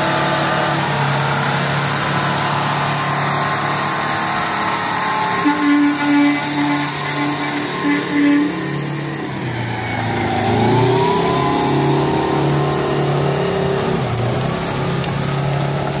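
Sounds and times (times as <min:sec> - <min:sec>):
truck diesel engine under load: 0:00.0 - 0:16.0.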